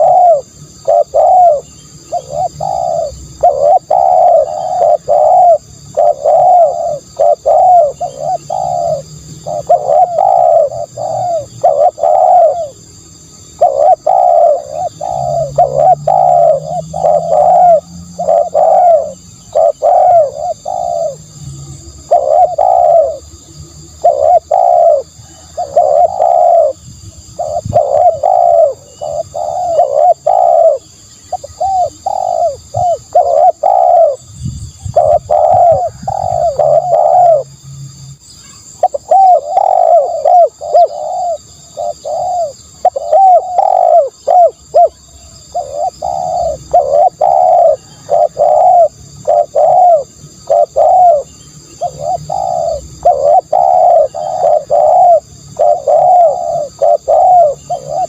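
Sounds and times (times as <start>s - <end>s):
dove cooing: 0.0s - 37.5s, 38.4s - 58.0s.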